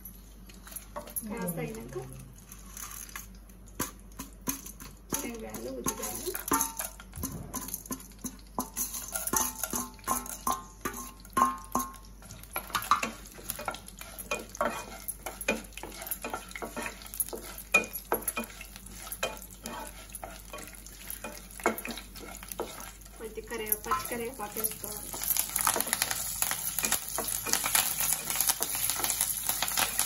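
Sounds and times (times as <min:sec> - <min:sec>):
light sizzle of frying: 0:00.0 - 0:30.0
spatula stirring and tapping in pan: 0:03.7 - 0:30.0.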